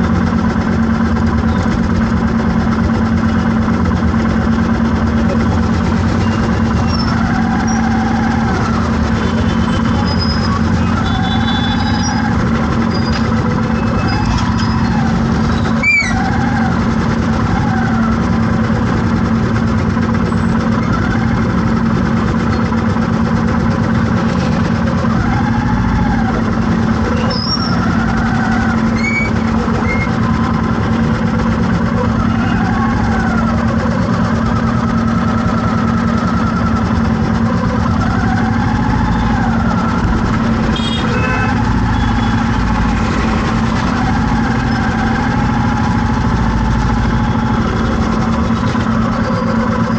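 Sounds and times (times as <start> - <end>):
vehicle engine running: 0.0 - 49.9.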